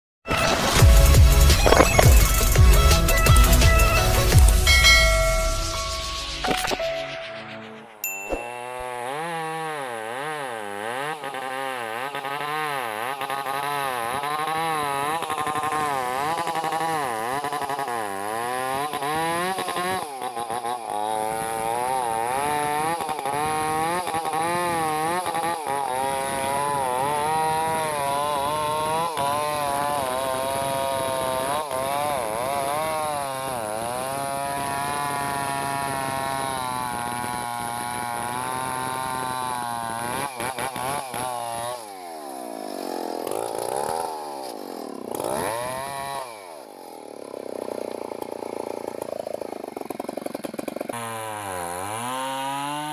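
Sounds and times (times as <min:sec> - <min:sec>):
chainsaw cutting a log: 0:00.3 - 0:06.6, 0:08.3 - 0:52.9.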